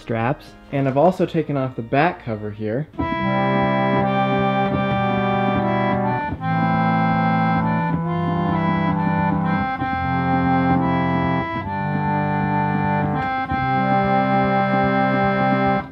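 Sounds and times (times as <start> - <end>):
organ playing slow chords: 0.0 - 15.9.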